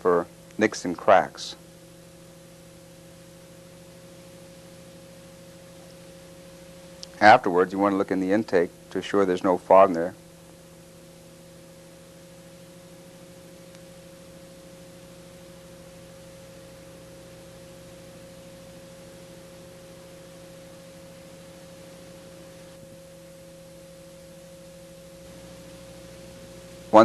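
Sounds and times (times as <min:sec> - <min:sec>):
steady tonal hum: 0:00.0 - 0:27.0.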